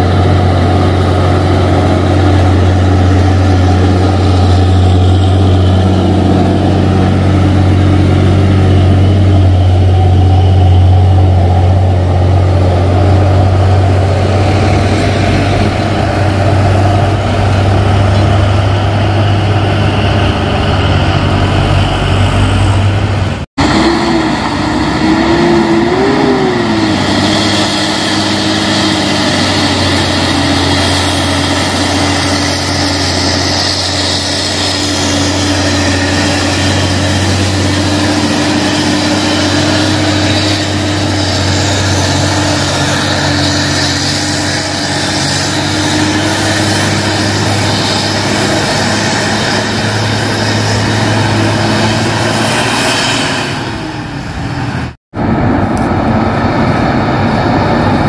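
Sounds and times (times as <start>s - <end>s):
truck diesel engines pulling uphill: 0.0s - 58.0s.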